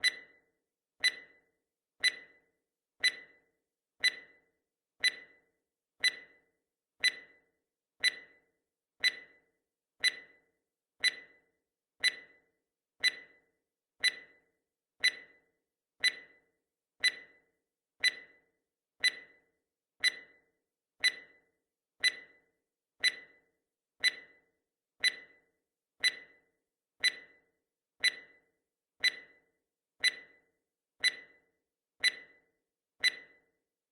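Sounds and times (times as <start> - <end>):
clock-like timer ticks: 0.0 - 33.6.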